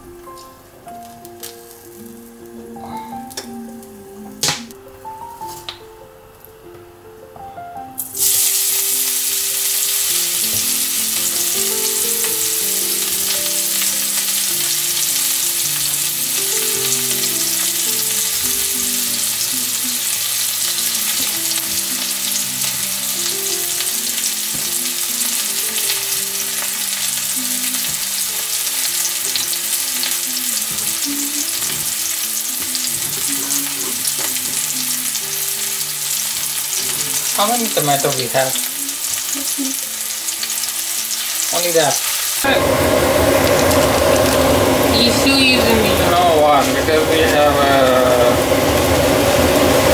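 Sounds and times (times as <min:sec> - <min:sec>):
onions sizzling in hot oil: 0:00.0 - 0:04.6, 0:08.0 - 0:49.9.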